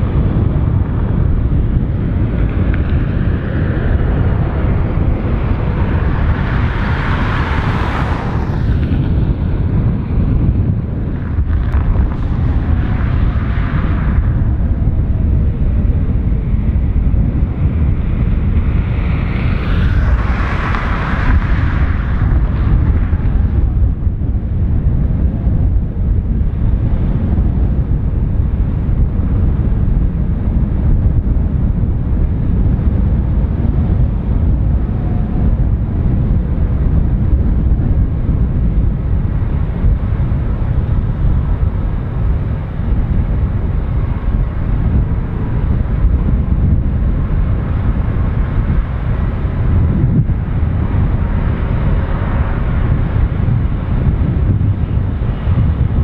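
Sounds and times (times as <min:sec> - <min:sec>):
jet engines low rumble: 0:00.0 - 0:56.0.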